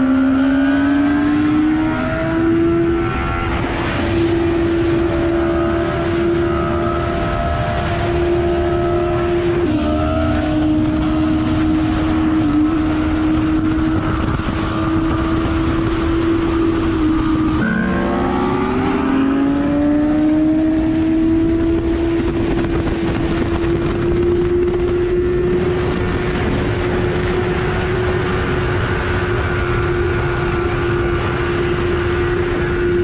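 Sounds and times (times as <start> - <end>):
motorcycle engine at speed: 0.0 - 33.0
wind noise: 0.0 - 33.0.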